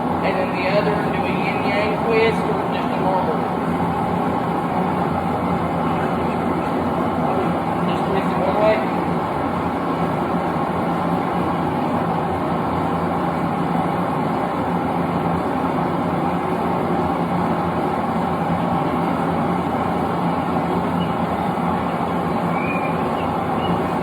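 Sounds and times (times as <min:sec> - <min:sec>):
gas forge burner roaring: 0:00.0 - 0:24.0.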